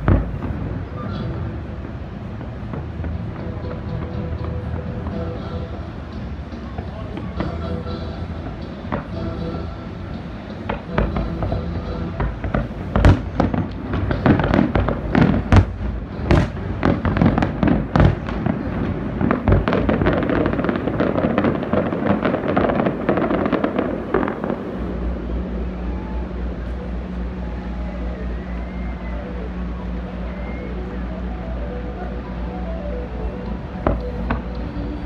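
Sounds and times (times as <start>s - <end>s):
fireworks bangs and crackling: 0.0s - 28.1s
steady low hum: 0.0s - 35.0s.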